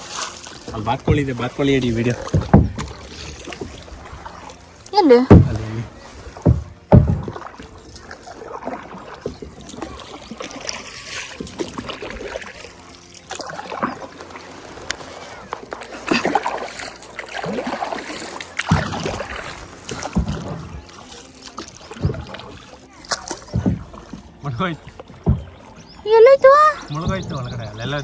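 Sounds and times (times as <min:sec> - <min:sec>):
paddle dipping into water: 0:00.0 - 0:27.5
water splashes and drips: 0:00.0 - 0:28.0.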